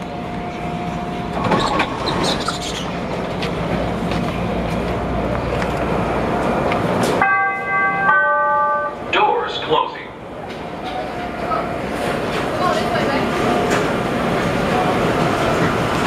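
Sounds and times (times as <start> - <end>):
train interior rumble: 0.0 - 16.0.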